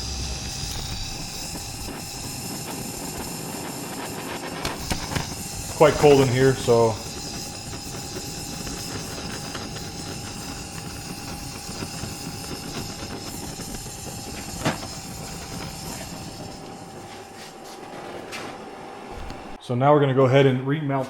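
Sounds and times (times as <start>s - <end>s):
blowtorch hissing: 0.0s - 19.6s.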